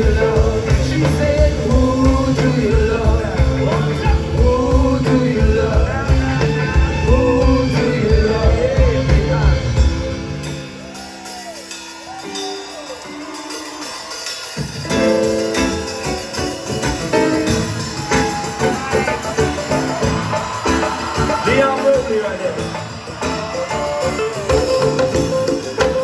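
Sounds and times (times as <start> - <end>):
live band playing: 0.0 - 26.0
person singing: 0.0 - 26.0.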